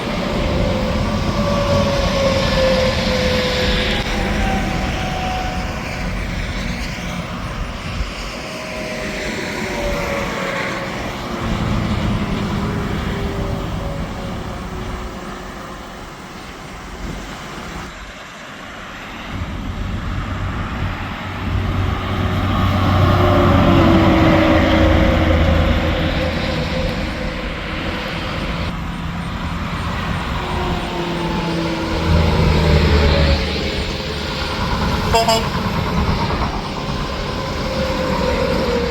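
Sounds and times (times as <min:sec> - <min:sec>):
highway traffic passing: 0:00.0 - 0:38.9
large vehicle engine drone: 0:00.0 - 0:38.9.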